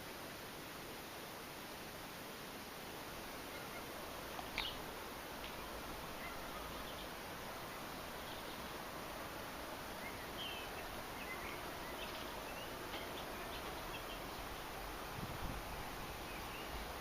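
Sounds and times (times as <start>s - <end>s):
outdoor background hiss: 0.0s - 17.0s
small birds chirping: 3.0s - 17.0s.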